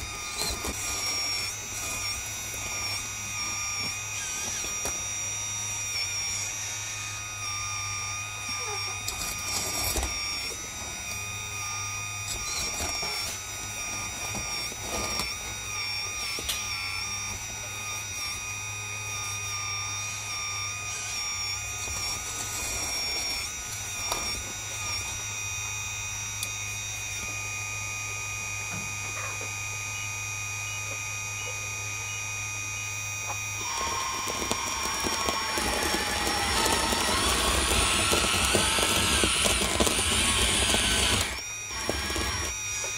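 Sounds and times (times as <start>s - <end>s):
hydraulic whine: 0.0s - 42.9s.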